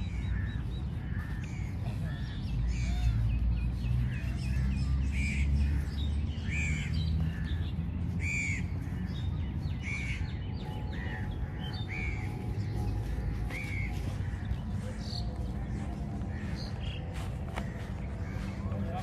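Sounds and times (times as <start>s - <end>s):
small birds chirping: 0.0s - 19.0s
crows cawing: 0.1s - 3.2s, 4.0s - 9.2s, 9.8s - 19.0s.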